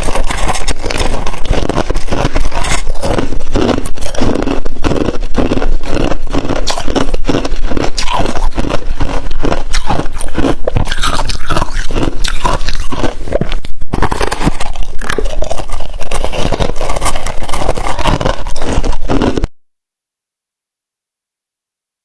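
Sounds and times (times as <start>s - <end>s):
crunching ice in the mouth: 0.0s - 19.5s.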